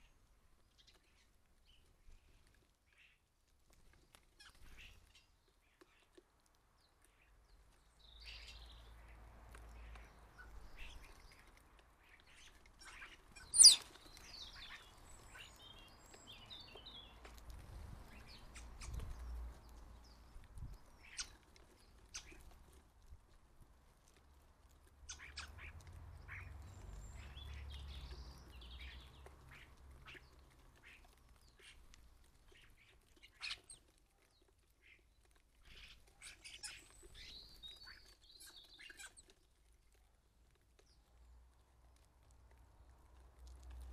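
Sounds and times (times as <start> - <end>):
garden birds chirping: 0.0 - 43.9.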